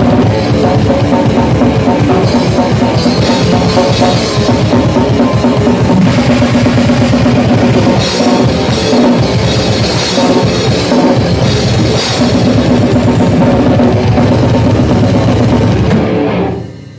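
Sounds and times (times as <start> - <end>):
bass drum: 0.0 - 16.2
rock band playing loudly: 0.0 - 16.9
cymbal crashes: 0.1 - 16.9.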